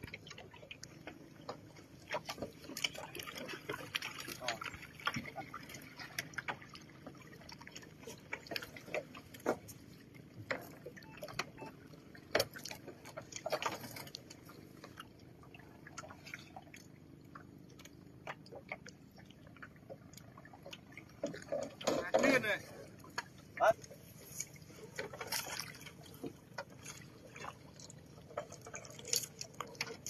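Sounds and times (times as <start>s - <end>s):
water splashing and dripping: 0.0s - 30.0s.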